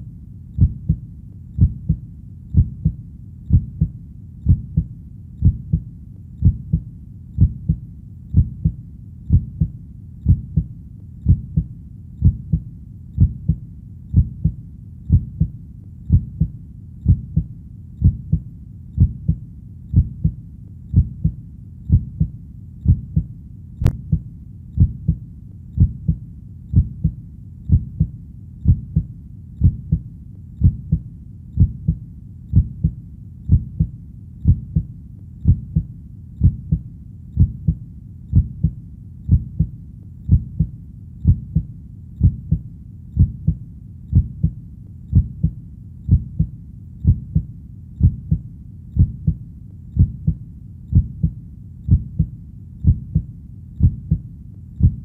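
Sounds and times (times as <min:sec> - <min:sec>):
faint low hum: 0:00.0 - 0:55.0
heartbeat thumps: 0:00.6 - 0:55.0.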